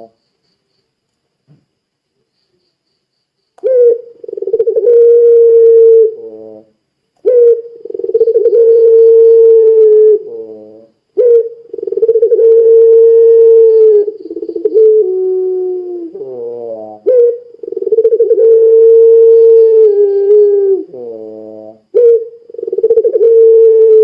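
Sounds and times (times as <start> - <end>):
dove cooing: 3.6 - 24.0.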